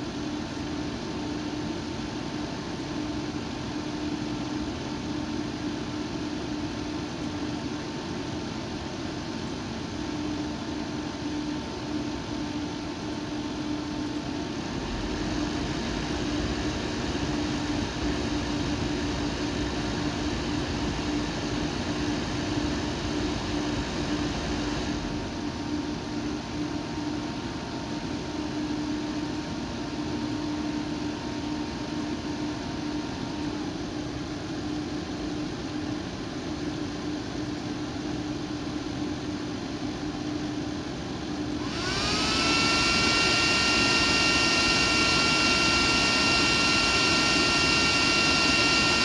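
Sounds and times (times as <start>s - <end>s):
computer fan whirring: 0.0s - 49.0s.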